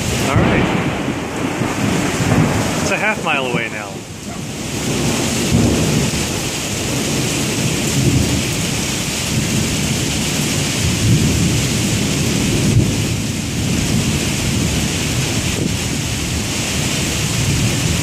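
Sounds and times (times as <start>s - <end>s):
heavy rain hissing: 0.0s - 18.0s
thunder rumbling: 0.0s - 18.0s.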